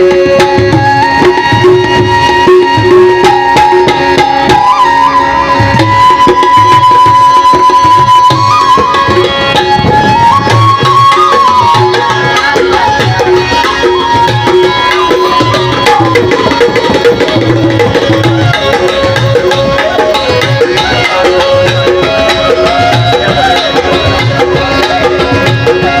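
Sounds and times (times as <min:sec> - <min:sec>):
sustained melody in held notes: 0:00.0 - 0:26.0
tabla drumming: 0:00.0 - 0:26.0.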